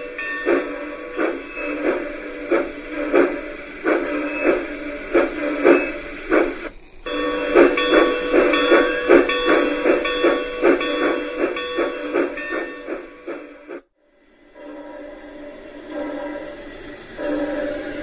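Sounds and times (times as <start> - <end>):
model train steam chuffs: 0.0 - 18.0
steam hiss: 0.0 - 18.0.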